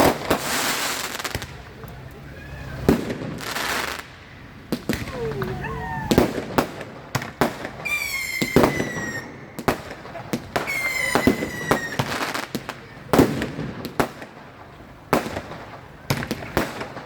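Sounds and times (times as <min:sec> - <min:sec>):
whistling fireworks: 0:00.0 - 0:01.7, 0:02.3 - 0:17.0
fireworks banging: 0:00.0 - 0:02.0, 0:02.7 - 0:17.0.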